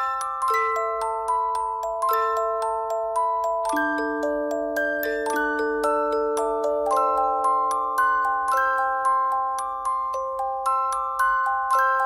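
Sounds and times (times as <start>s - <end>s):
glockenspiel-like mallet melody: 0.0s - 12.0s.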